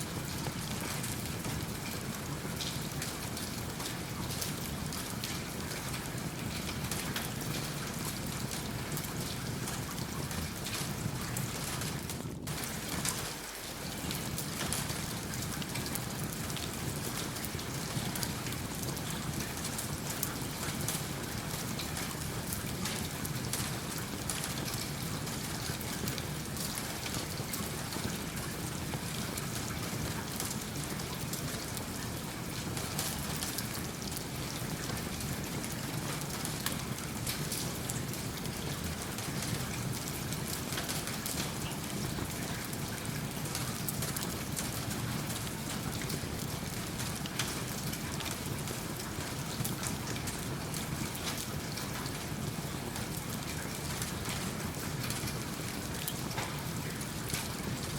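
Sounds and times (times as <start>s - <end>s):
steady rain falling: 0.0s - 57.9s
wood fire crackling: 10.5s - 18.6s, 19.3s - 57.8s.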